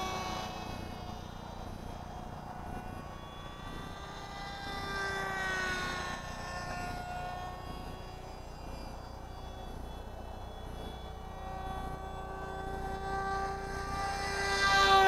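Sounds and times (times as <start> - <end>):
model airplane motor whine: 0.0 - 15.0.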